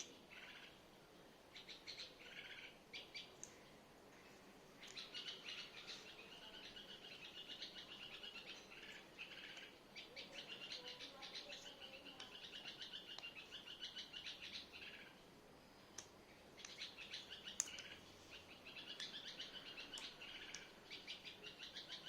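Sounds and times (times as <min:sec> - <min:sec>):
faint bird-like chirping trills: 0:00.0 - 0:00.8, 0:01.5 - 0:22.0.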